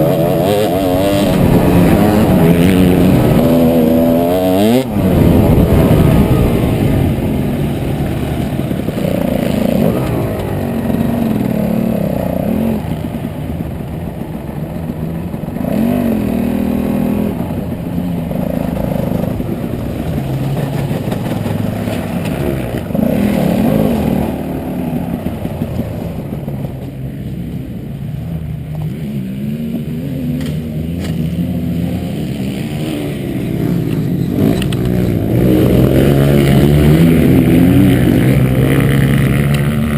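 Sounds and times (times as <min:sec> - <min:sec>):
dirt bike engine revving: 0:00.0 - 0:26.8, 0:28.7 - 0:39.9.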